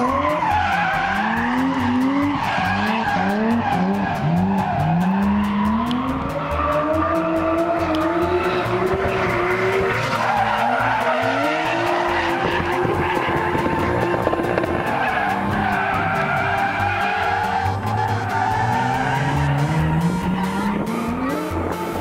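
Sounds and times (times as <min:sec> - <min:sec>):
car engine revving hard: 0:00.0 - 0:22.0
tyres skidding: 0:00.0 - 0:22.0.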